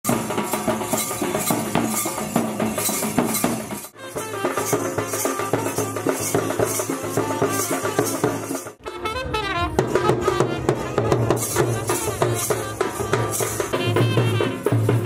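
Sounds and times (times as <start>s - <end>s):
drums and cymbals beat: 0.0s - 15.0s
pitched melody: 0.3s - 15.0s.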